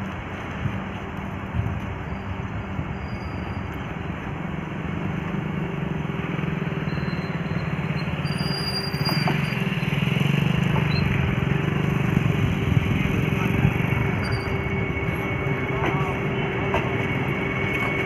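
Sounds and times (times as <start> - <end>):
electric train approaching: 0.0 - 18.0
rail running noise: 0.0 - 18.0.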